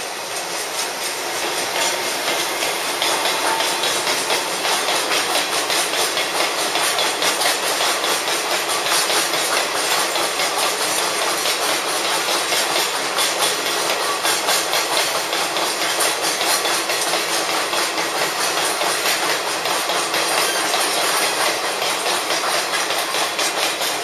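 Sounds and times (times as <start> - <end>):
freight train rumble: 0.0 - 24.0
steel wheels clattering on rails: 0.0 - 24.0.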